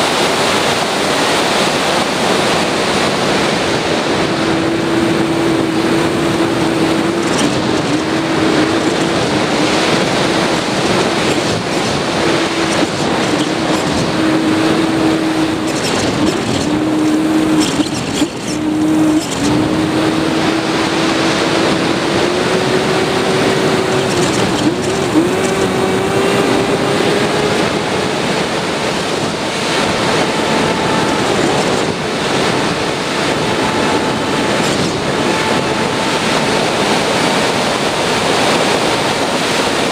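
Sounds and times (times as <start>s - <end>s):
electric motor and propeller whine: 0.0s - 39.9s
wind on microphone: 0.0s - 39.9s.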